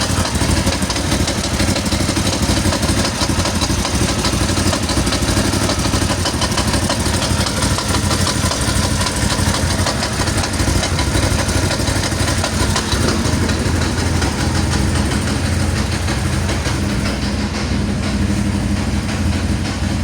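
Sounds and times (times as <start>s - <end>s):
buggy engine idling: 0.0s - 20.0s.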